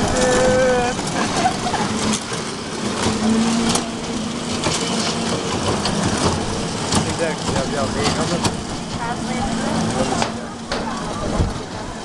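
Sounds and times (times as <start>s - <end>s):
ride mechanical drone: 0.0s - 12.0s.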